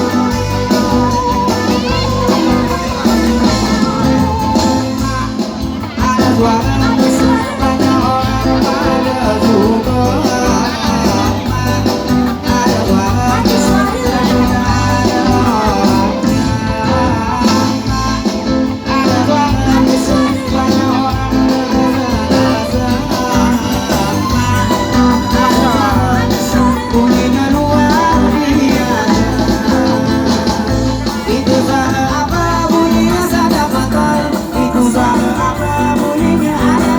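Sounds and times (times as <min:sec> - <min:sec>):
person singing with band: 0:00.0 - 0:36.9.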